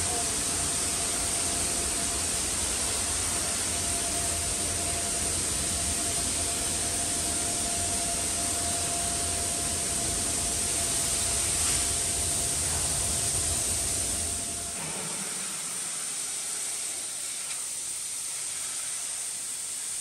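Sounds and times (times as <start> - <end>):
faint steady whine: 0.0 - 20.0
ventilation blower air hiss: 0.0 - 20.0.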